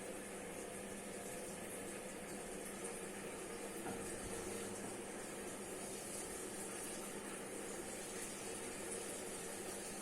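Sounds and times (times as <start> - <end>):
washing machine running: 0.0 - 10.0.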